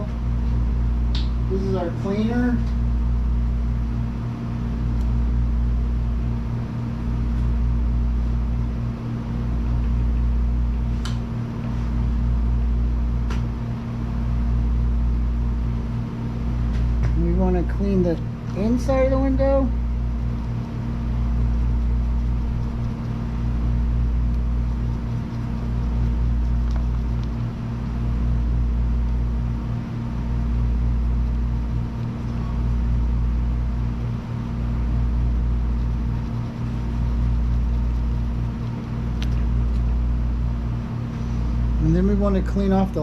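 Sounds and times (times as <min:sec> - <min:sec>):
low rumbling hum: 0:00.0 - 0:43.0.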